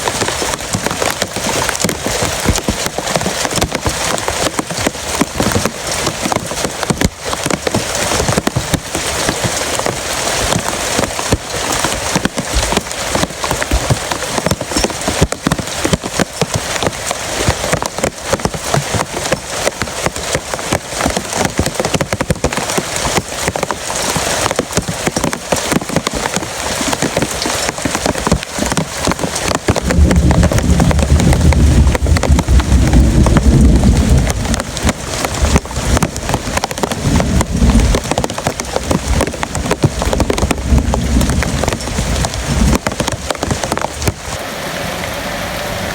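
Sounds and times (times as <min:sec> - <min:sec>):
heavy rain on hard surface: 0:00.0 - 0:45.9.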